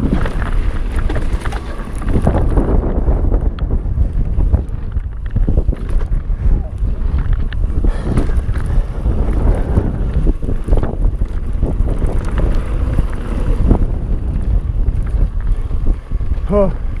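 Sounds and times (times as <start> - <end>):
tyres rolling over dirt: 0.0 - 16.5
bike rattling over bumps: 0.0 - 17.0
wind rushing over microphone: 0.0 - 17.0.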